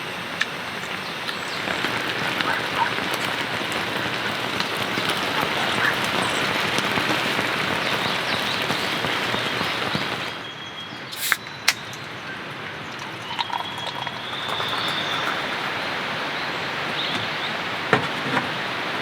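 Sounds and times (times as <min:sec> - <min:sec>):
steady rain: 0:00.0 - 0:10.4, 0:11.8 - 0:19.0.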